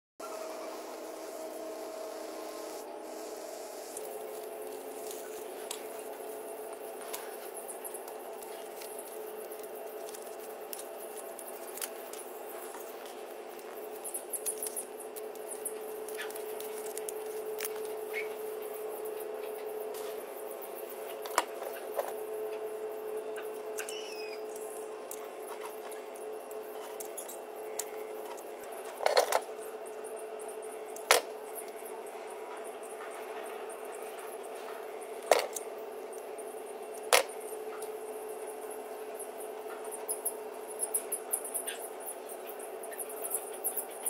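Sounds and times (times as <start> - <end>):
steady hum: 0.2 - 44.0.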